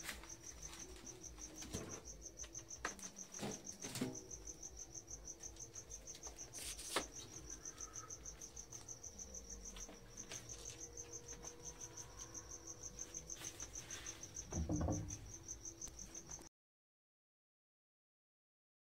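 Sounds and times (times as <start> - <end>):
cricket chirping: 0.0 - 16.5.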